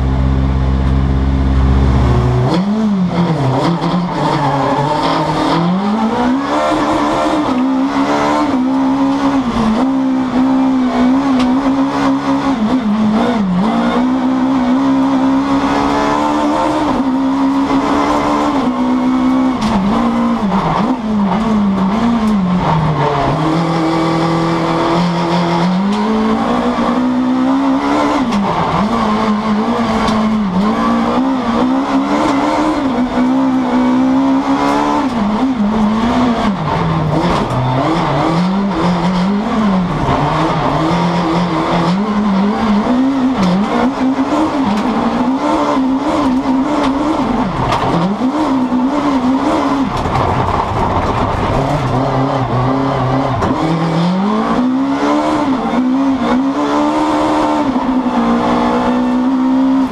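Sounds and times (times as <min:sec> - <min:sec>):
rally car engine revving hard: 0:00.0 - 0:59.9.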